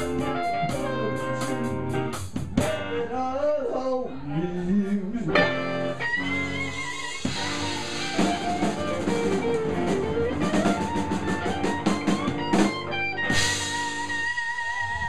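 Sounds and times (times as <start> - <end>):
drum kit: 0.0 - 3.0, 5.4 - 15.0
electric guitar: 0.0 - 3.2, 5.3 - 15.0.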